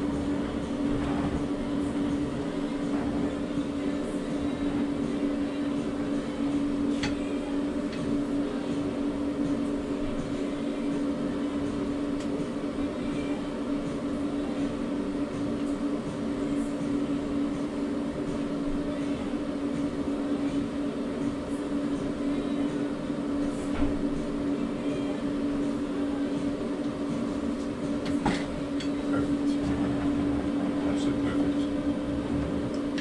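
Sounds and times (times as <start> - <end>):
blower fan humming: 0.0 - 33.0.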